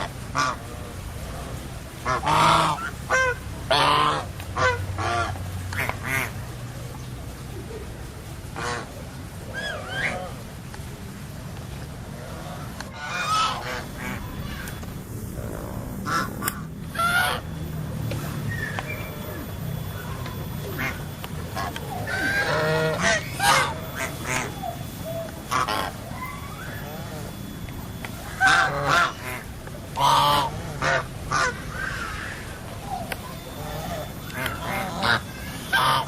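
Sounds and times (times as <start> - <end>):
geese honking: 0.0 - 7.3, 8.4 - 10.8, 11.8 - 36.0.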